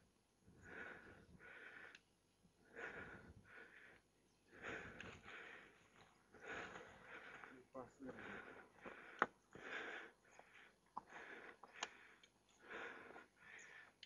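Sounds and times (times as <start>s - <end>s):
person breathing hard: 0.5s - 14.0s.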